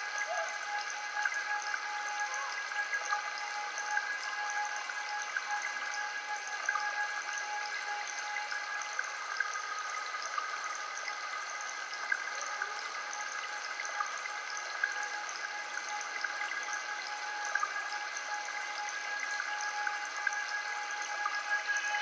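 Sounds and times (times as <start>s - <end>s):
ambient drone of held tones: 0.0s - 10.5s, 12.4s - 22.0s.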